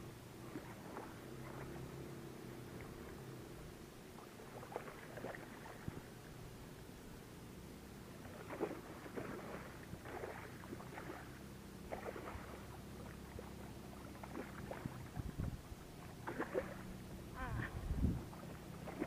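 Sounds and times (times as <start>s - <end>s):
low motor hum: 0.0s - 19.0s
water splashing and lapping: 0.0s - 19.0s.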